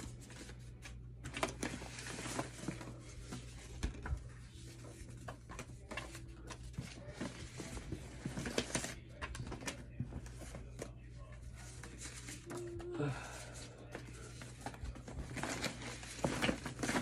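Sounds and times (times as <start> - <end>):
cards rustling and snapping: 0.0 - 17.0.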